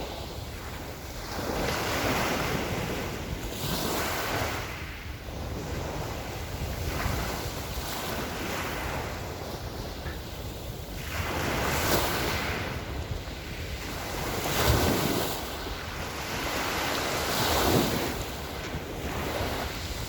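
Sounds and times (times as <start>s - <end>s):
waves washing onto shore: 0.0s - 20.0s
wind rumbling on microphone: 0.0s - 20.0s.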